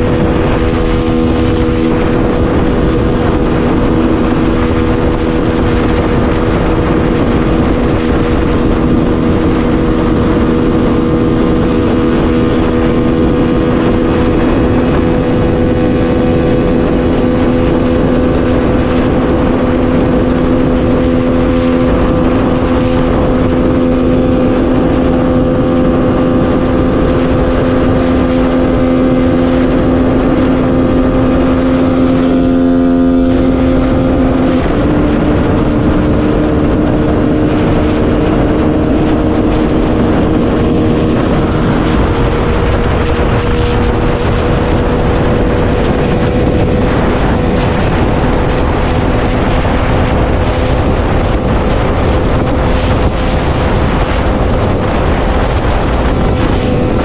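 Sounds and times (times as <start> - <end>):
motorcycle engine drone: 0.0 - 57.0
wind noise over helmet: 0.0 - 57.0.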